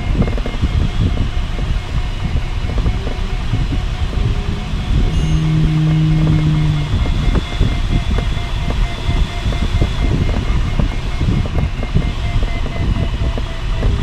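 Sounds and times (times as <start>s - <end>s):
airflow rushing around cockpit: 0.0s - 14.0s
low steady hum: 0.0s - 14.0s.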